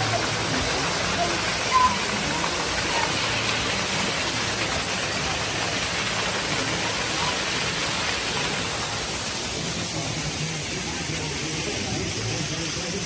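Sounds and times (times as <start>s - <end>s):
waterfall splashing on rocks: 0.0s - 13.0s.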